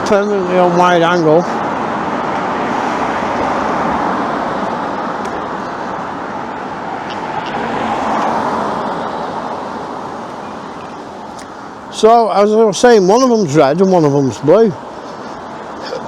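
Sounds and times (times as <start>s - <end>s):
cars passing: 0.0s - 16.0s
road traffic: 0.0s - 16.0s.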